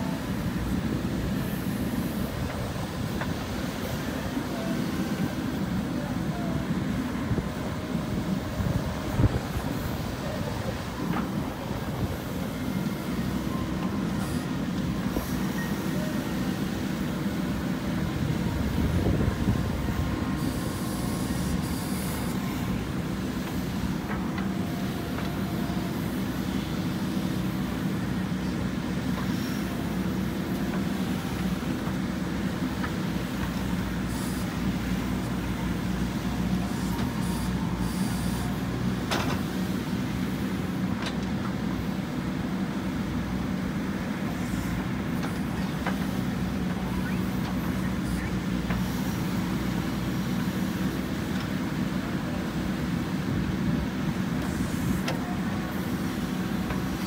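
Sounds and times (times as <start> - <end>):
backhoe diesel engine rumbling: 0.0 - 57.0.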